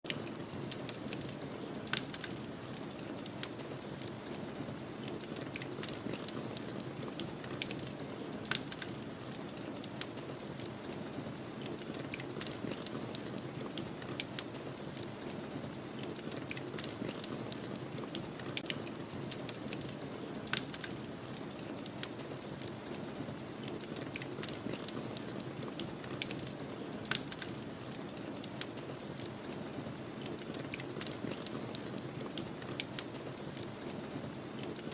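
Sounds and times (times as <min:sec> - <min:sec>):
wood fire crackling and popping: 0:00.1 - 0:34.9.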